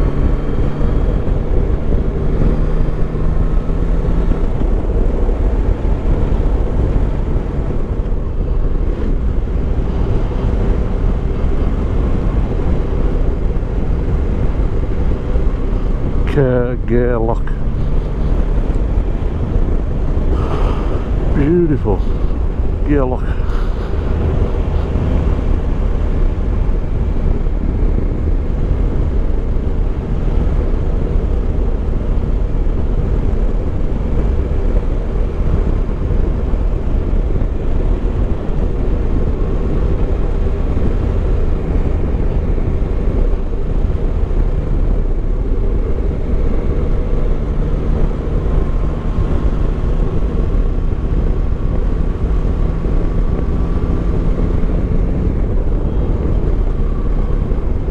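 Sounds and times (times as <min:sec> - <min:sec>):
wind rush on microphone: 0:00.0 - 0:57.9.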